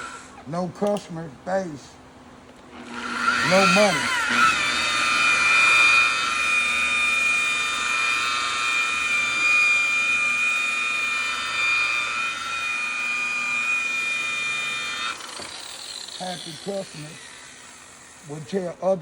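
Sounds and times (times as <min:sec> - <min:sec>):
electric buffer whining: 0:00.0 - 0:01.2, 0:01.8 - 0:19.0.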